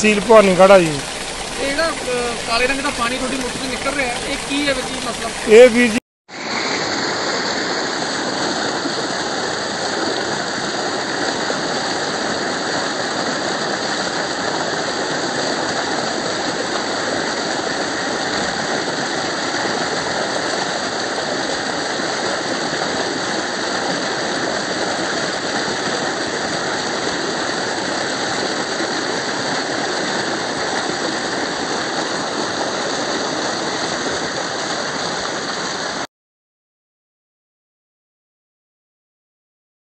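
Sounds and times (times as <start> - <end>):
water gushing into tank: 0.0 - 36.1.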